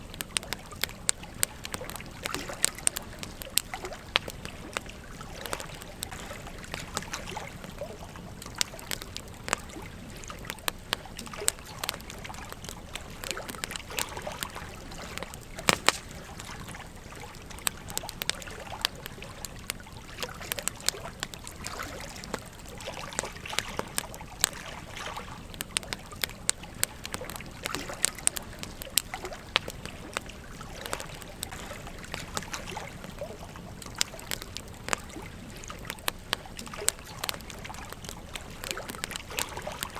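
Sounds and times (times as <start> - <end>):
campfire crackling: 0.0 - 39.9
trickling stream: 0.0 - 39.9.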